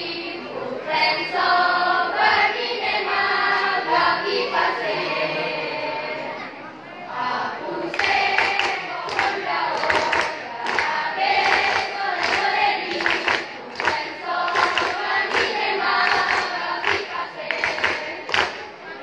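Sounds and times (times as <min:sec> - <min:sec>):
girls' choir singing unaccompanied: 0:00.0 - 0:19.0.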